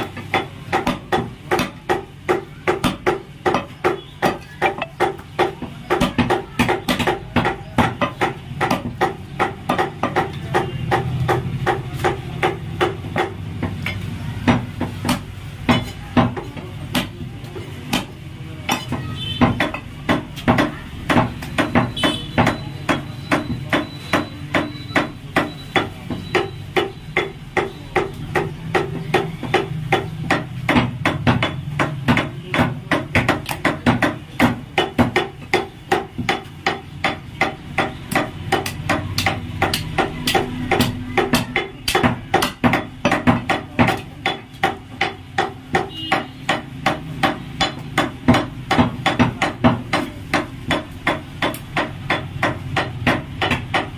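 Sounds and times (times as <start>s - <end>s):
cleaver chopping meat and bone: 0.0s - 53.9s.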